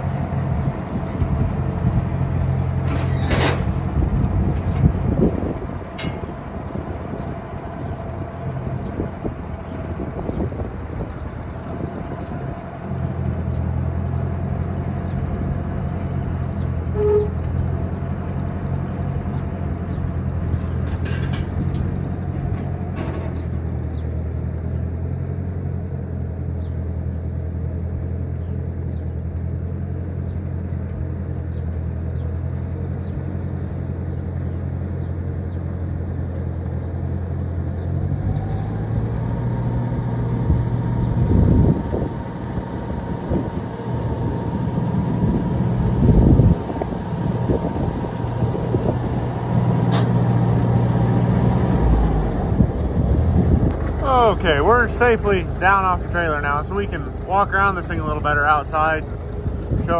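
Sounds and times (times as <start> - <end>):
baler engine running: 0.0 - 59.9.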